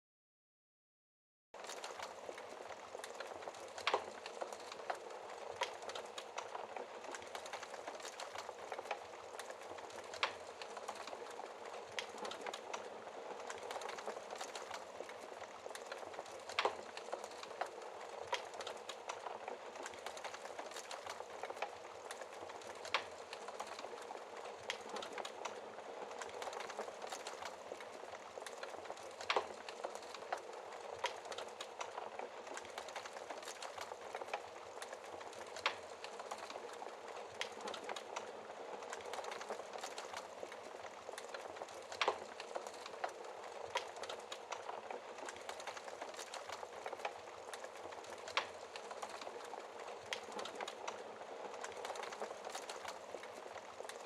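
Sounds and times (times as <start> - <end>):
fire crackling: 1.6 - 54.0
fire popping: 1.6 - 54.0.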